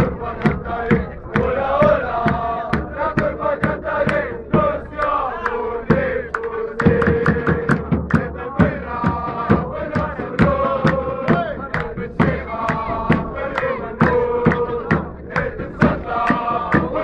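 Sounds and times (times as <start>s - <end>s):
crowd chanting in unison: 0.0s - 17.0s
steady drum beat: 0.0s - 17.0s.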